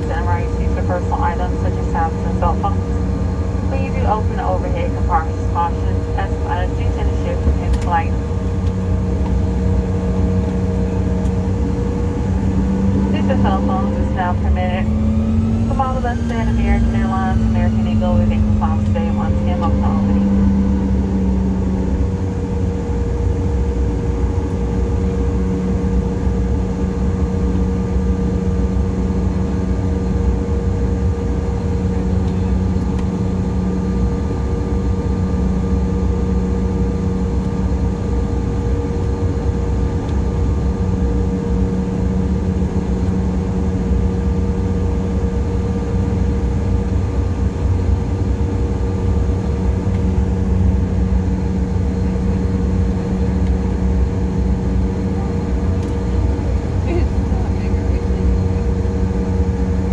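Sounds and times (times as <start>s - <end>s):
low cabin rumble: 0.0s - 59.9s
steady engine hums: 0.0s - 59.9s.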